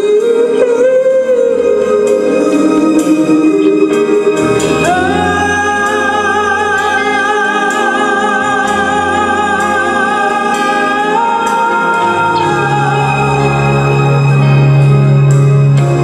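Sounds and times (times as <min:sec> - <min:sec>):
band accompaniment: 0:00.0 - 0:16.0
person singing long high note: 0:00.0 - 0:16.0.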